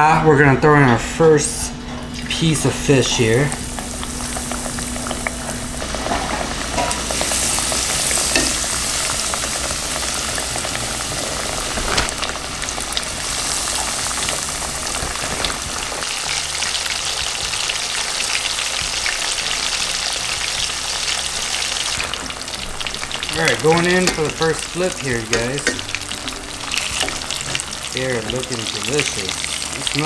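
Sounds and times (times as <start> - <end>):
fish frying in oil: 2.2 - 30.0.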